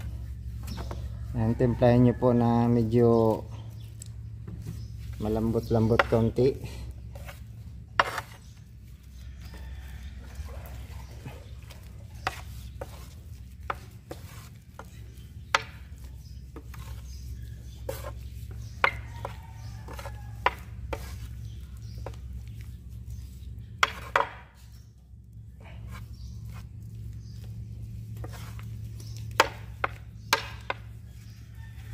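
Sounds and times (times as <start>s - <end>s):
grout being stirred: 0.0s - 25.0s, 25.6s - 31.9s
steady low hum: 0.0s - 31.9s.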